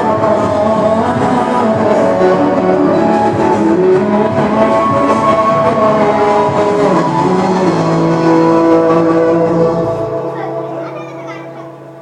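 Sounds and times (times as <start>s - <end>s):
instrumental music over speakers: 0.0s - 12.0s.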